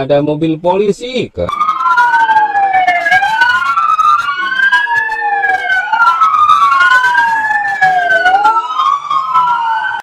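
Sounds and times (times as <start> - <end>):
police siren wailing: 1.5 - 10.0.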